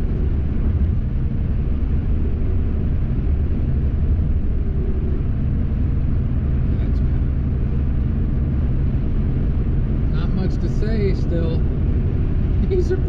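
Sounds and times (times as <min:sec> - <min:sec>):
road and engine noise in vehicle cab: 0:00.0 - 0:13.0.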